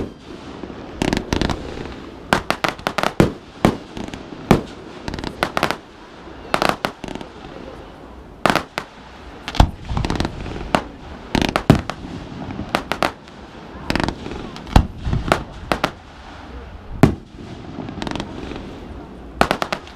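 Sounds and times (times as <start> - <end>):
fireworks bangs and crackling: 0.0 - 19.9.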